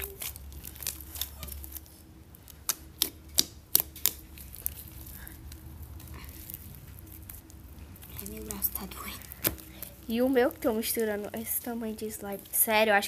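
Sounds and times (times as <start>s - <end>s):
slime kneaded by hand: 0.0s - 13.0s.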